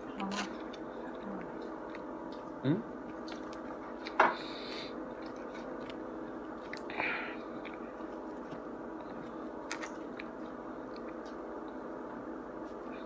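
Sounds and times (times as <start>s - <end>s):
steady hum: 0.0s - 13.0s
chewing: 0.2s - 4.2s, 5.1s - 11.8s.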